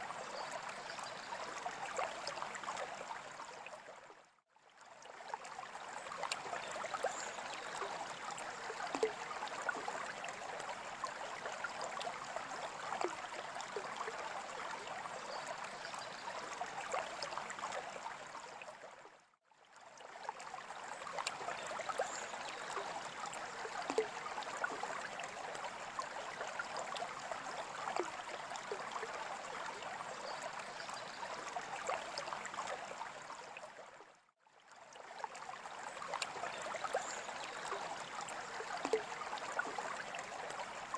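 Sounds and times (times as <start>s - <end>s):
aquarium water trickling and bubbling: 0.0s - 40.9s.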